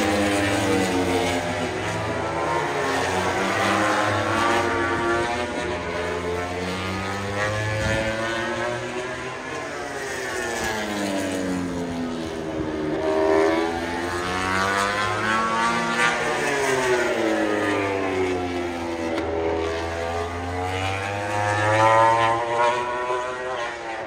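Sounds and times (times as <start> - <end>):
high-revving engines: 0.0 - 24.0.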